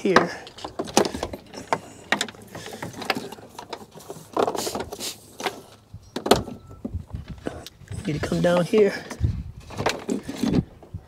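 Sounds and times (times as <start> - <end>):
wire scraping and rustling: 0.3 - 11.0.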